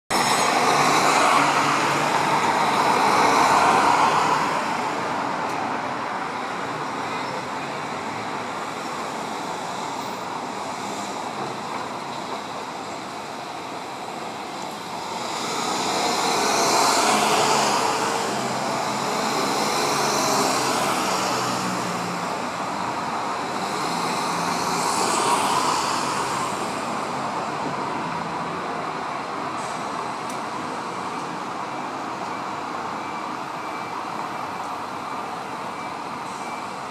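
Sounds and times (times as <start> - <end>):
cars passing: 0.1 - 36.2.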